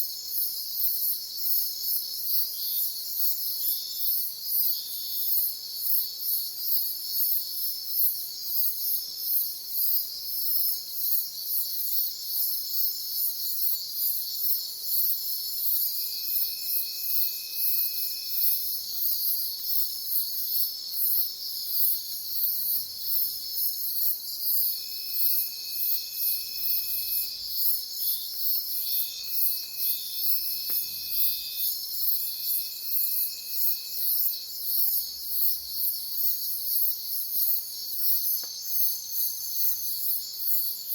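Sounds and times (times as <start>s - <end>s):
high insect trill: 0.1s - 40.9s
insects chirping: 0.1s - 40.9s
lower insect trill: 0.1s - 40.9s.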